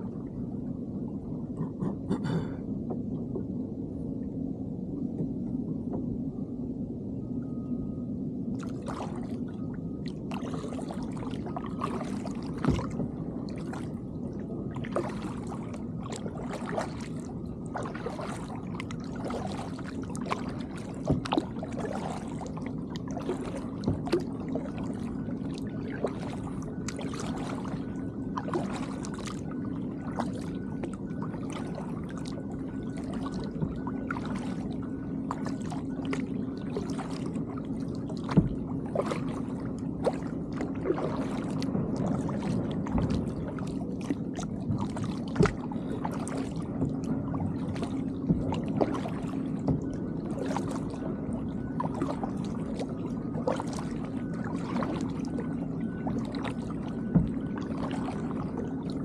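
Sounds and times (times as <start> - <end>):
steady low hum: 0.0 - 59.0
paddle splashing in water: 8.6 - 9.4, 10.0 - 14.0, 14.7 - 59.0.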